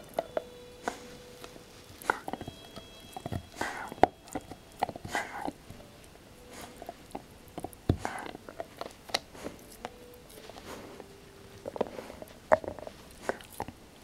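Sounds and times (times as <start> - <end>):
dog gnawing a chew bone: 0.0 - 14.0.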